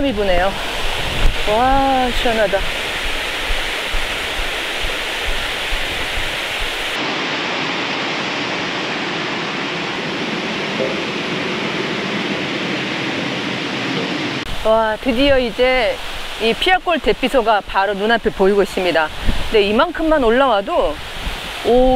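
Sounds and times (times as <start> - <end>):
stream rushing over boulders: 0.0 - 21.9
wind rumble on microphone: 0.0 - 21.9.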